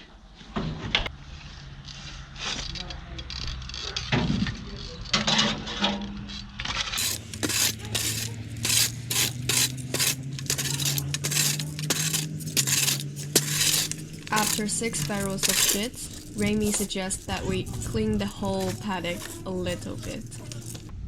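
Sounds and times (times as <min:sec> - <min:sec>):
metal tools clinking and scraping: 0:02.4 - 0:21.0.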